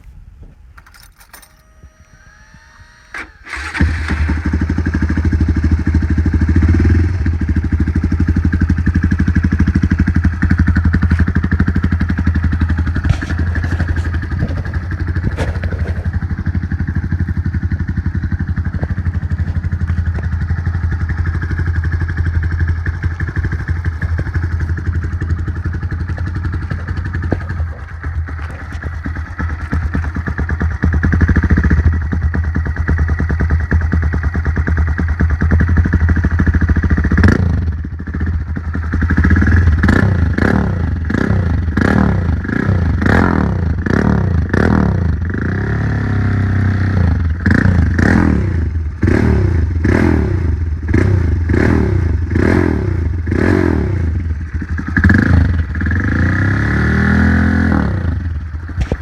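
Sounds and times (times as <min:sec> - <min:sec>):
motorcycle engine starting and idling: 0:00.0 - 0:59.0.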